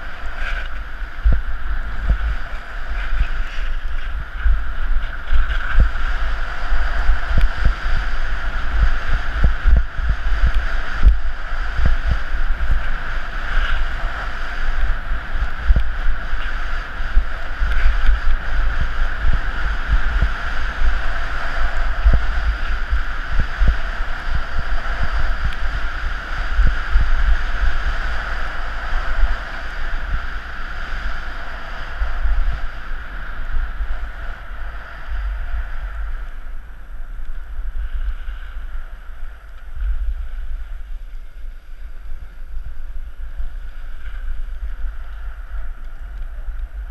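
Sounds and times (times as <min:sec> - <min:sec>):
skis sliding over snow: 0:00.0 - 0:46.9
wind buffeting microphone: 0:00.0 - 0:46.9.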